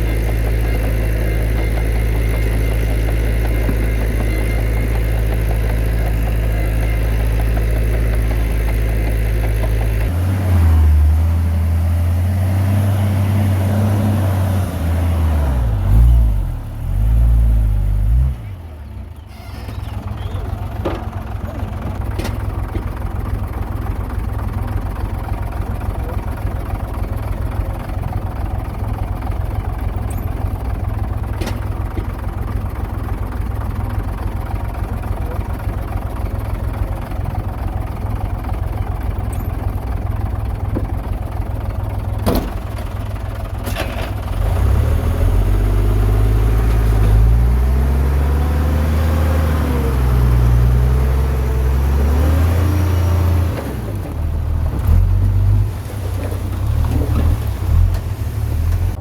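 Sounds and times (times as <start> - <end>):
diesel earthmoving machinery droning: 0.0 - 59.0.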